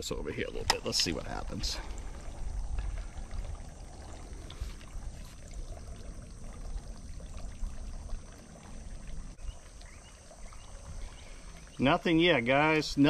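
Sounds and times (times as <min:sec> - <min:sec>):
wind rumbling on microphone: 0:00.0 - 0:12.1
faint hiss: 0:00.0 - 0:13.0.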